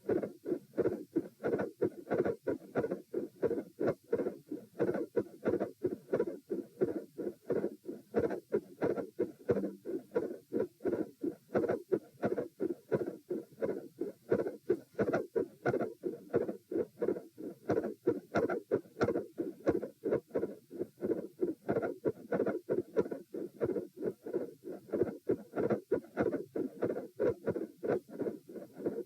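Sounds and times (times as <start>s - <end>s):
heartbeat through stethoscope: 0.0s - 29.0s.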